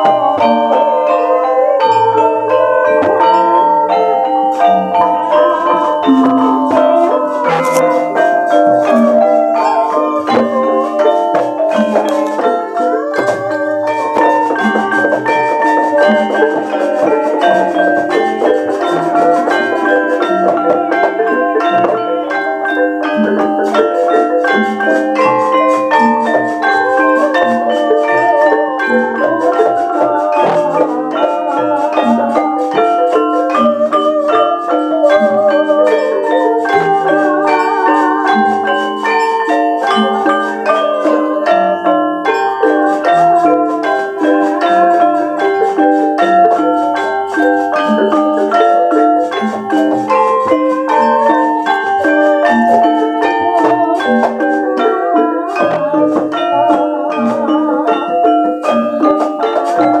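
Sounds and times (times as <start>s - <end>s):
gamelan ensemble playing: 0.0s - 60.0s.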